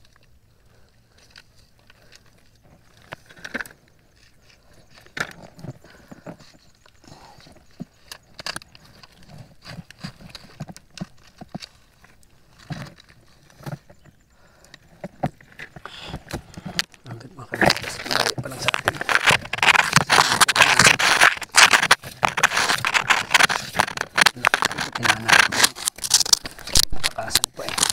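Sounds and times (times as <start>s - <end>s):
footsteps through mud and sticks: 1.1s - 27.9s.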